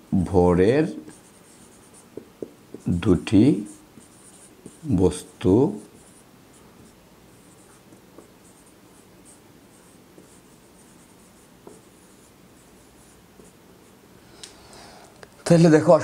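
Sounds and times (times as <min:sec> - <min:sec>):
marker pen on whiteboard: 0:00.2 - 0:14.1.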